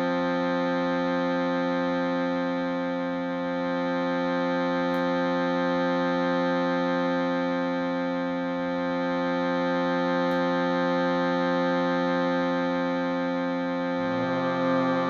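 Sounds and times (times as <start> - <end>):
shruti box drone: 0.0 - 15.0.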